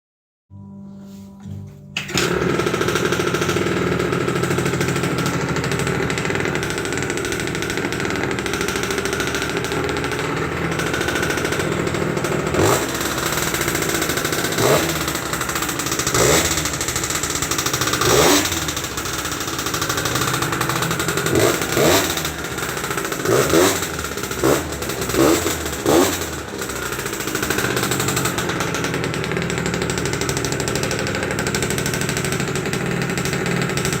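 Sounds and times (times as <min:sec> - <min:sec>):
small engine revving and idling: 0:02.0 - 0:34.0.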